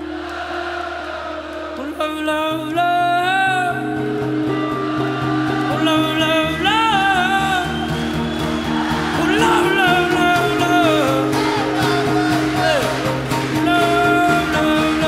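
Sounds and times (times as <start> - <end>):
guitar: 0.0 - 15.0
person singing: 1.5 - 8.3, 9.0 - 15.0.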